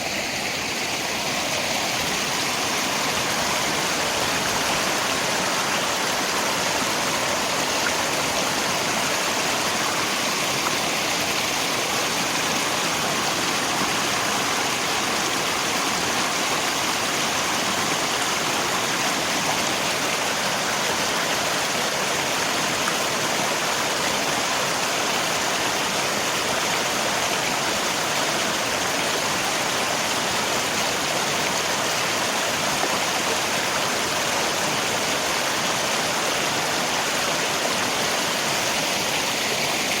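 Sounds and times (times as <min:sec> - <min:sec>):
rain: 0:00.0 - 0:40.0
river water rushing: 0:00.0 - 0:40.0.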